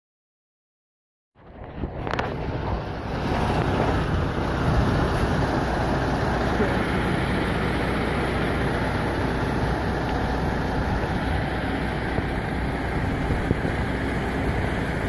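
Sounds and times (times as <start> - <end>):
diesel truck engine idling: 1.4 - 15.0.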